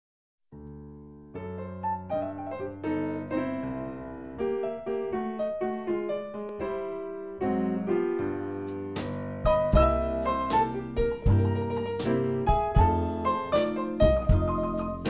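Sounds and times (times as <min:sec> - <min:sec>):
light piano tune: 0:00.5 - 0:15.0.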